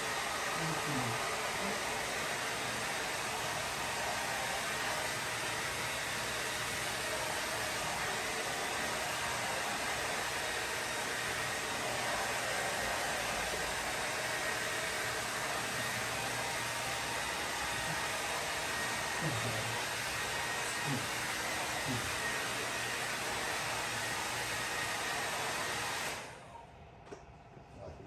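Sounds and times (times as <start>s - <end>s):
hair dryer blowing: 0.0s - 26.6s.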